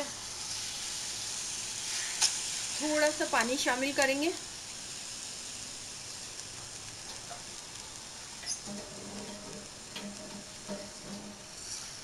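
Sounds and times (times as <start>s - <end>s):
beef sizzling in a pot: 0.0s - 12.0s.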